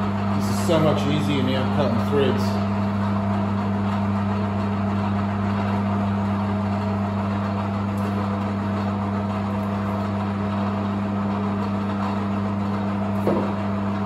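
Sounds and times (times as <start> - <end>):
lathe motor hum: 0.0 - 14.0.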